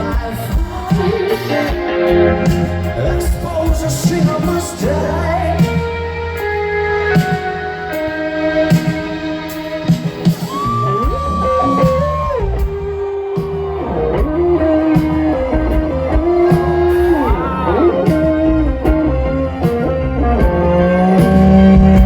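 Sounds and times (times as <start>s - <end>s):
bass guitar: 0.0s - 22.0s
drums: 0.0s - 22.0s
electric guitar sliding notes: 0.0s - 22.0s.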